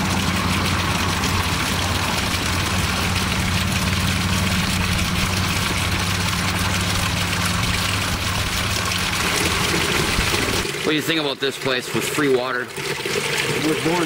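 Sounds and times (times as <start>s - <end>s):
water splashing into stone basin: 0.0s - 14.0s.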